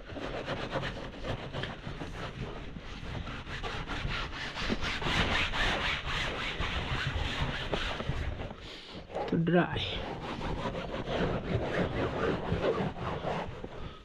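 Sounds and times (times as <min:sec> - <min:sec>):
rhythmic rubbing strokes: 0:00.0 - 0:14.0.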